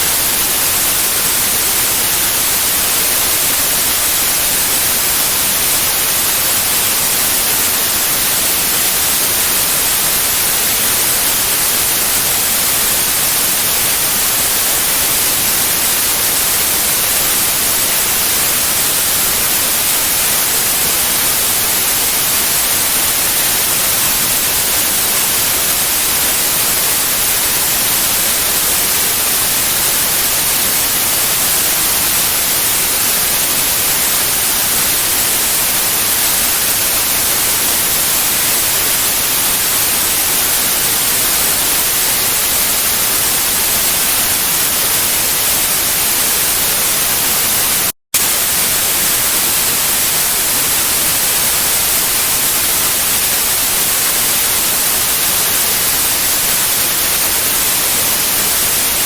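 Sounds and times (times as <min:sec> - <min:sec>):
steady white noise hiss: 0:00.0 - 0:58.8.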